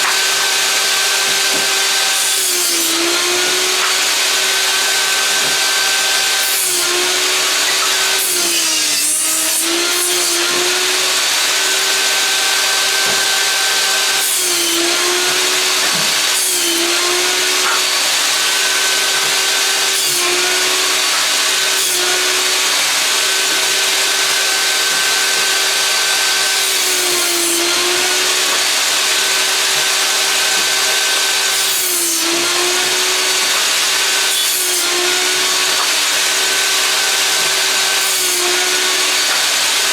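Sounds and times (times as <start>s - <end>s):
table saw whining: 0.0s - 39.9s.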